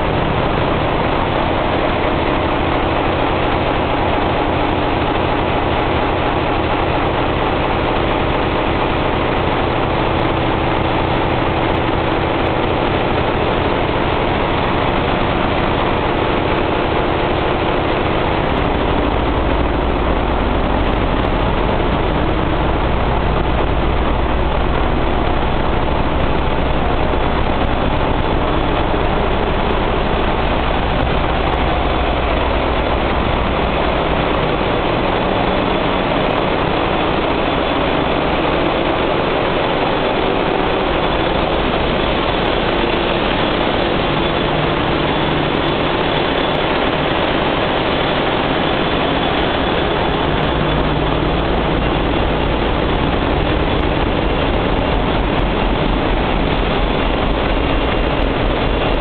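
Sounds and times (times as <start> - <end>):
diesel engines in engine room: 0.0 - 59.0.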